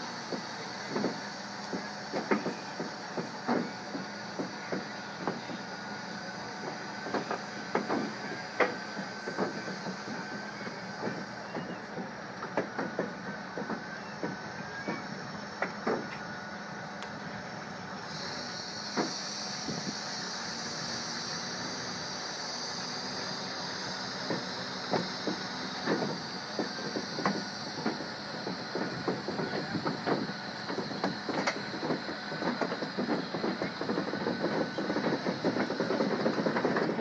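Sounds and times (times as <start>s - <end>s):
wheels clanking and knocking: 0.0s - 16.3s, 23.0s - 37.0s
high hiss: 0.0s - 36.8s.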